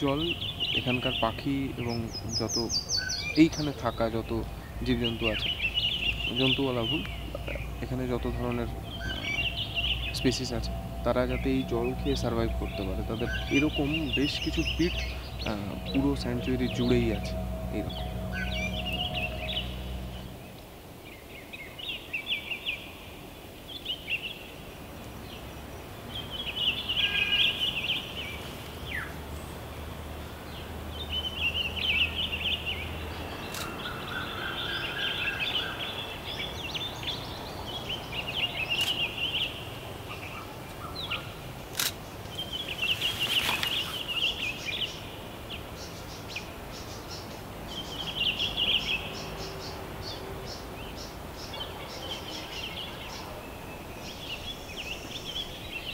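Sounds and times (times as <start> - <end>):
birds twittering: 0.0 - 55.9.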